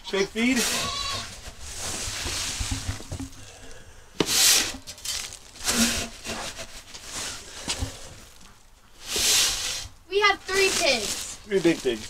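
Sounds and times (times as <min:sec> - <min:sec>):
rustling and rubbing: 0:00.3 - 0:12.0.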